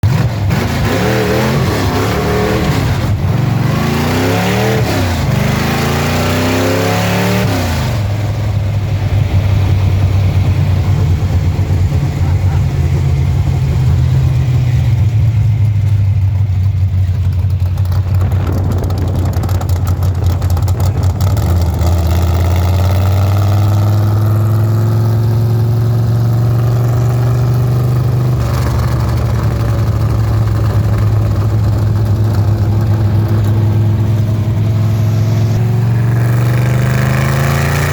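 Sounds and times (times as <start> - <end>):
car engine revving and idling: 0.0 - 37.9.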